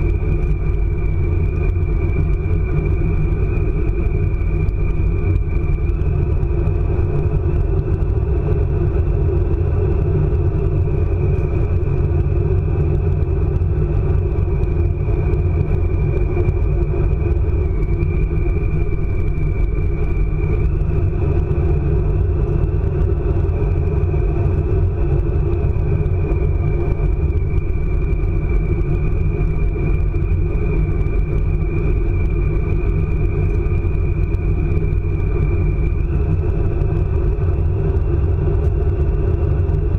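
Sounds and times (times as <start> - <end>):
high-pitched whine: 0.0 - 39.9
train low rumble: 0.0 - 39.9.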